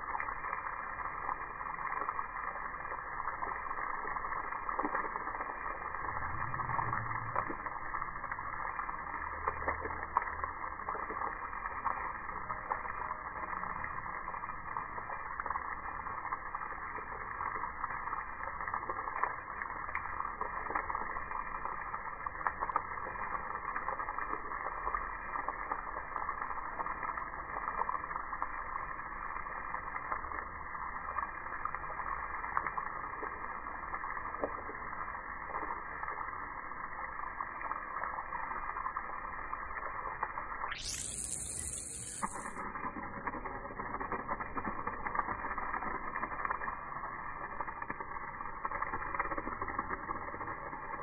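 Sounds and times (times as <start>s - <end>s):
hose water spraying and splashing: 0.0s - 51.0s.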